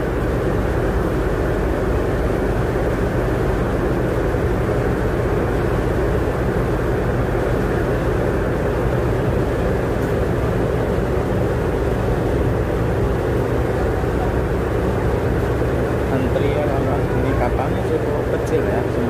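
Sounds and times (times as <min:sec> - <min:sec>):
constant low hum: 0:00.0 - 0:19.0
low engine drone: 0:00.0 - 0:19.0.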